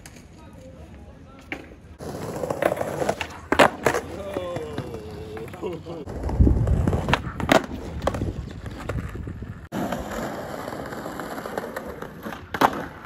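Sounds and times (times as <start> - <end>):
skateboard wheels rolling on brick: 0.0 - 13.0
skateboard clacking on paving: 1.4 - 13.0.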